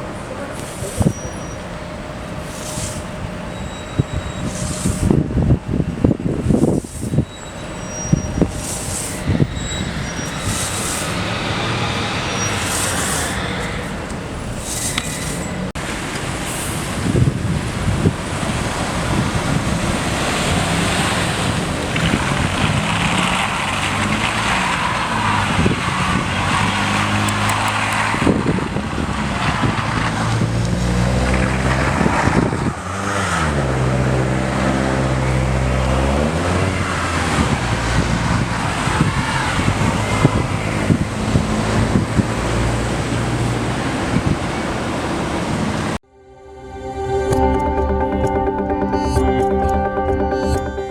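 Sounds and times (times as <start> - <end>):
vehicle engine rising in pitch: 0.0 - 15.8, 17.1 - 50.9
cars and trucks passing: 0.0 - 46.0.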